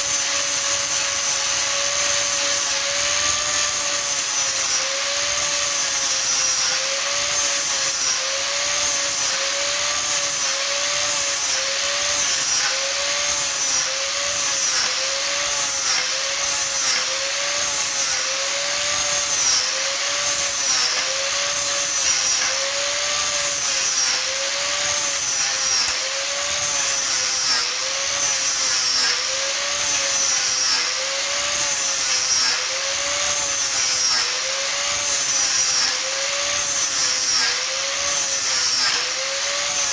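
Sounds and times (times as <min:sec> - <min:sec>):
power tool whining through wood: 0:00.0 - 0:39.9.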